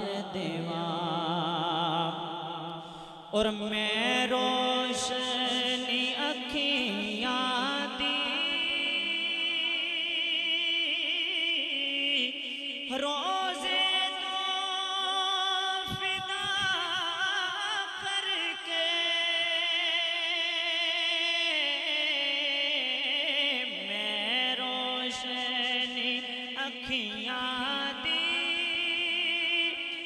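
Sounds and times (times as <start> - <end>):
man singing into microphone: 0.0 - 30.0.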